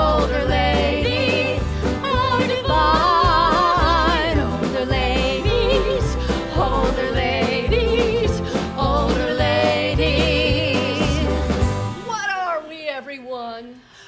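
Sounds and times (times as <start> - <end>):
women singing with vibrato: 0.0 - 11.5
banjo: 0.0 - 12.0
guitar: 0.0 - 12.2.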